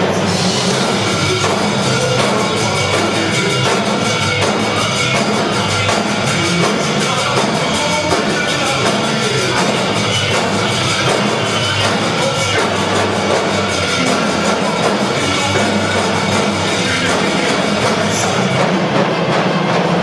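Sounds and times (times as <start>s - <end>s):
drumline playing rapid patterns: 0.0s - 20.0s
rock and roll song: 0.0s - 20.0s.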